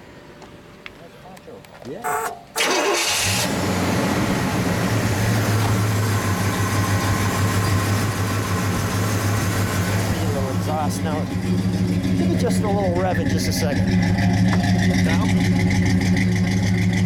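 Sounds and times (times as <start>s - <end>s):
car engine starting and idling: 2.0s - 17.0s.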